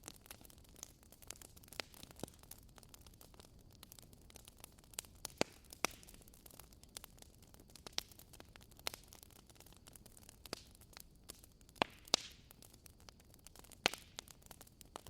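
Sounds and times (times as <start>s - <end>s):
low steady hiss: 0.0s - 15.0s
wood fire crackling: 0.0s - 15.0s.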